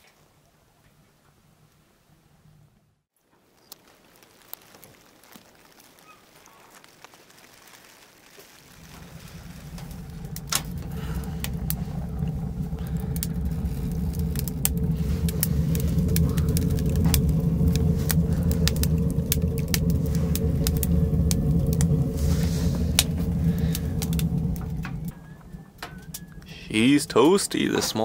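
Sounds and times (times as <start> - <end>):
wood fire roaring and crackling: 1.4 - 28.0.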